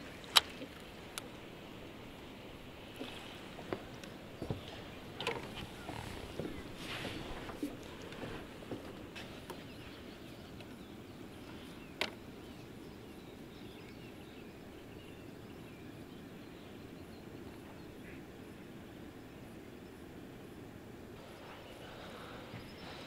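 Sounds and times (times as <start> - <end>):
faint birdsong: 0.0 - 23.0
low background noise: 0.0 - 23.0.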